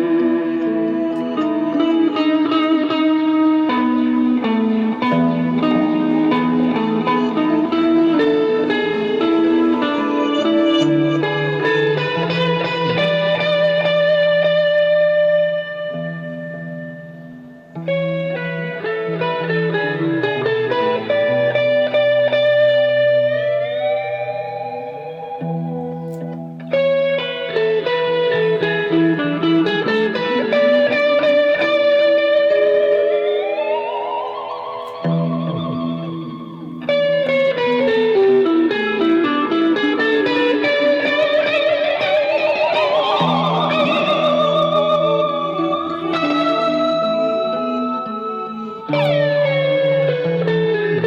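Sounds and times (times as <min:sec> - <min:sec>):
guitar picking melody: 0:00.0 - 0:51.0
held tone with vibrato: 0:00.0 - 0:51.0.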